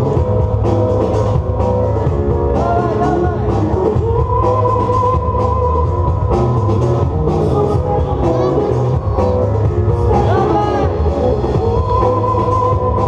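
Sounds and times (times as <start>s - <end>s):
loud music with heavy bass: 0.0s - 13.0s.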